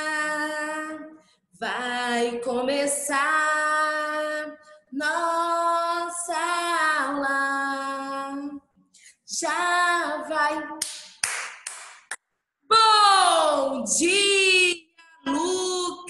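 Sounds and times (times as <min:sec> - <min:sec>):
woman singing unaccompanied: 0:00.0 - 0:08.7, 0:09.3 - 0:10.8, 0:12.7 - 0:16.0.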